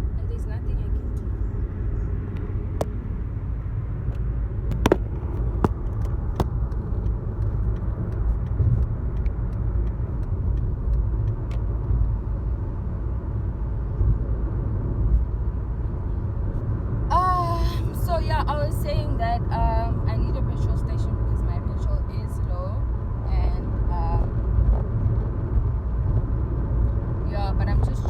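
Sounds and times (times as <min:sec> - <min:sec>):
car cabin road and engine rumble: 0:00.0 - 0:28.0.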